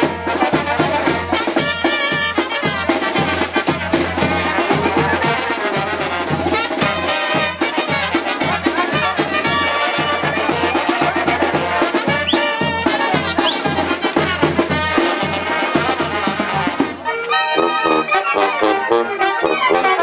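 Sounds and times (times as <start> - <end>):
brass band dance music: 0.0 - 20.0.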